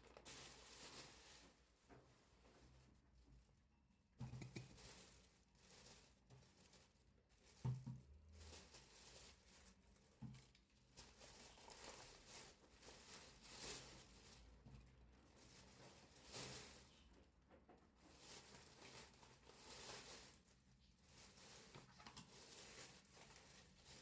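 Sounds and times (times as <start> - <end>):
faint rustling and handling: 0.0 - 24.0.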